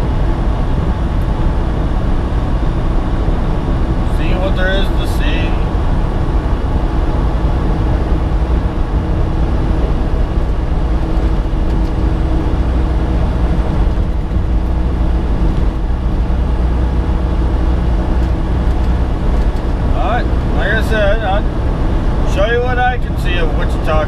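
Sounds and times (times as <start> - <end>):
truck engine drone: 0.0 - 24.0
tyre and road noise: 0.0 - 24.0.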